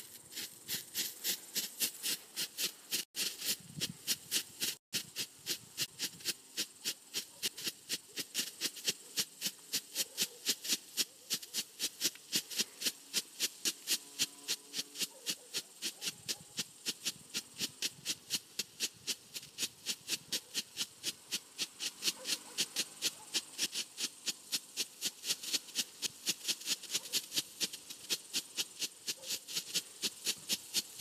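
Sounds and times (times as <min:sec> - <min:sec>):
strobe flare hissing crackle: 0:00.0 - 0:31.0.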